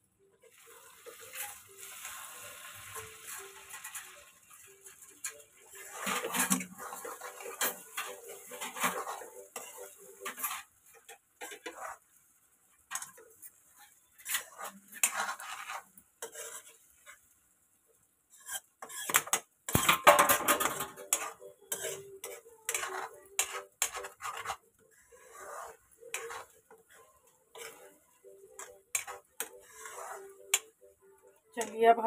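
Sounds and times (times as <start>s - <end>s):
metal spoon scraping metal pan: 0.5s - 2.2s, 2.8s - 12.1s, 12.8s - 17.2s, 18.3s - 30.9s, 31.6s - 31.8s.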